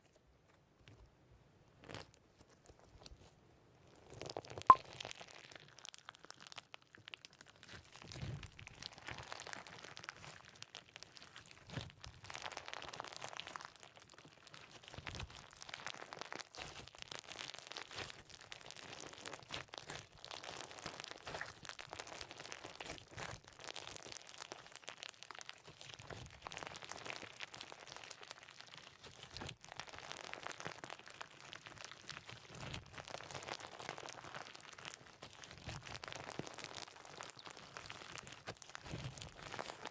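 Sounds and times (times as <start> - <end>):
crunchy slime crackling: 3.9 - 39.9.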